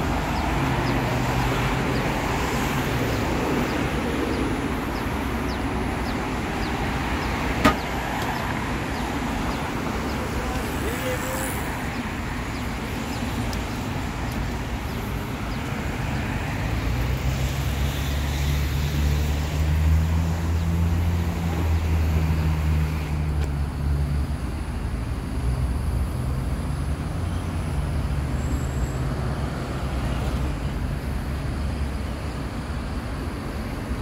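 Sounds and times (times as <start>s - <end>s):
passing road traffic: 0.0s - 34.0s.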